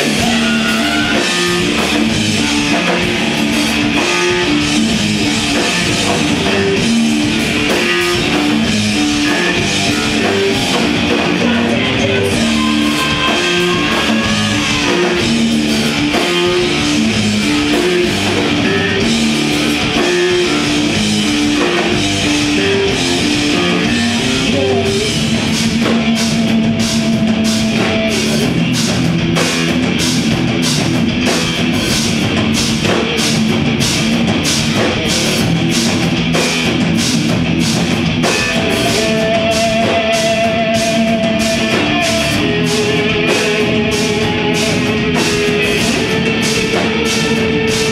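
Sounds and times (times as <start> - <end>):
drum and cymbal hits: 0.0 - 47.9
rock band playing loud: 0.0 - 47.9.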